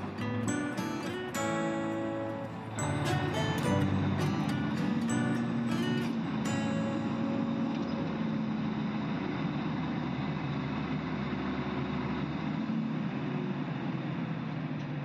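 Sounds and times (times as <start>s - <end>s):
diesel machinery engine rumble: 0.0s - 15.0s.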